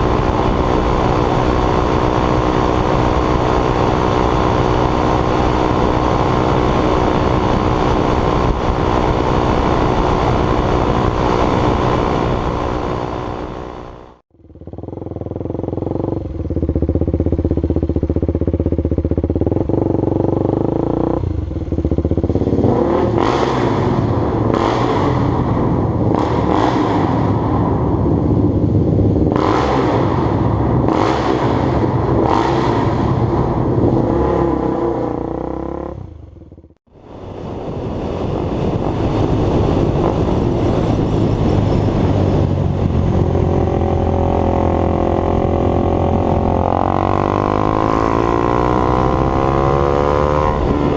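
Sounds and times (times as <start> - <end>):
motorcycle engine revving: 0.0 - 36.9, 38.6 - 50.9.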